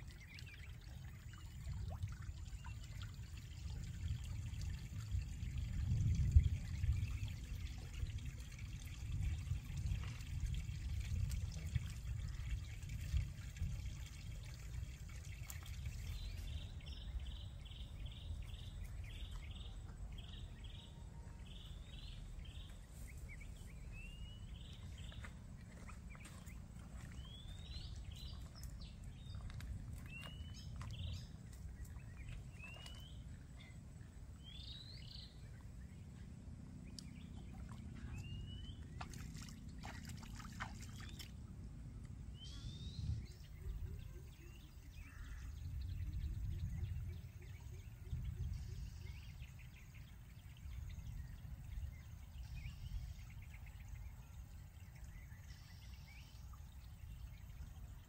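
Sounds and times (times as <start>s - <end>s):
low steady rumble: 0.0s - 58.0s
trickling creek water: 0.0s - 58.0s.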